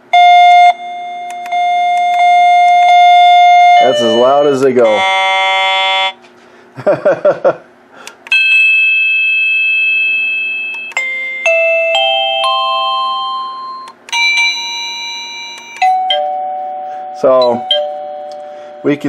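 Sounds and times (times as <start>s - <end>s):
doorbell chime melody: 0.2s - 6.2s, 8.3s - 19.0s.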